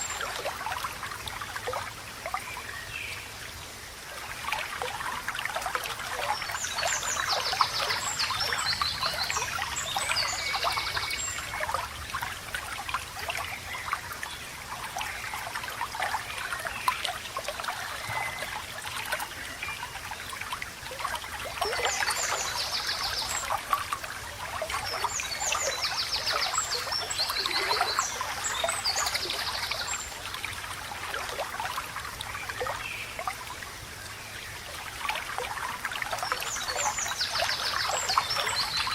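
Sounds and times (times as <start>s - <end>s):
water trickling over stones: 0.0s - 38.9s.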